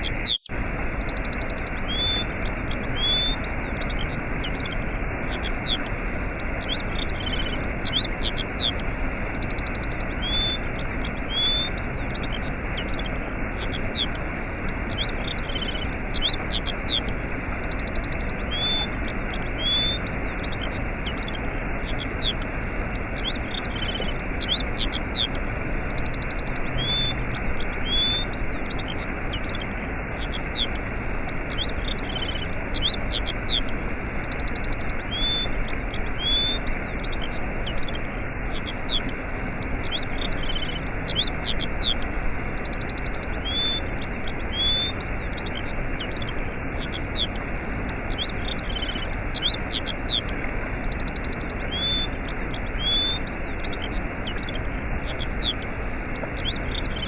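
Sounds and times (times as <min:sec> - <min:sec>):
small birds chirping and trilling: 0:00.0 - 0:57.0
waterfall rushing: 0:00.1 - 0:57.0.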